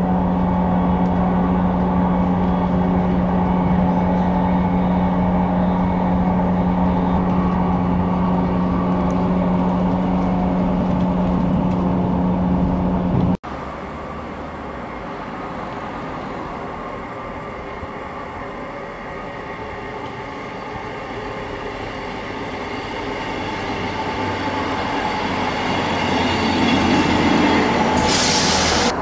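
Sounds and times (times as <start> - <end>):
diesel train approaching: 0.0 - 29.0
rail running noise: 0.0 - 29.0
train engine drone: 0.0 - 29.0.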